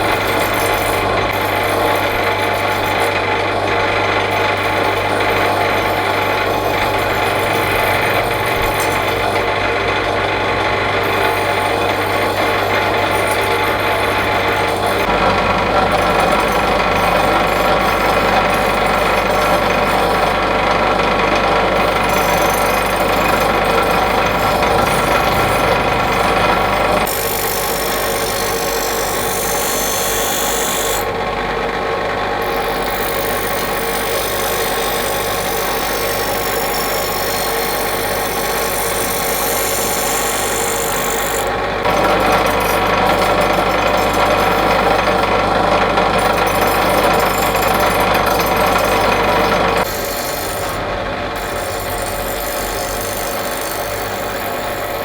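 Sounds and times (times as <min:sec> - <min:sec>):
power tool grinding steel: 0:00.0 - 0:31.3, 0:32.4 - 0:55.0
motor hum: 0:00.0 - 0:55.0.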